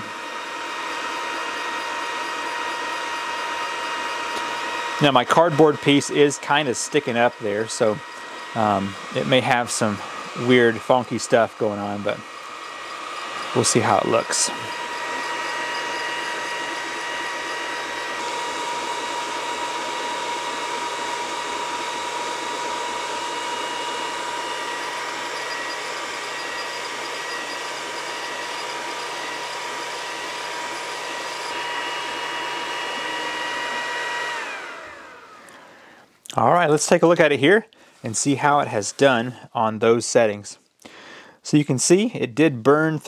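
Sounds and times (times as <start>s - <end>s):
cooling fan whine: 0.0s - 39.5s.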